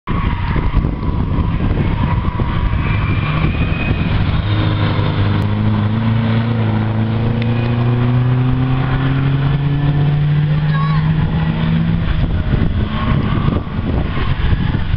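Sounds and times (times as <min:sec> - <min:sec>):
race car engine at high revs: 0:00.1 - 0:14.9.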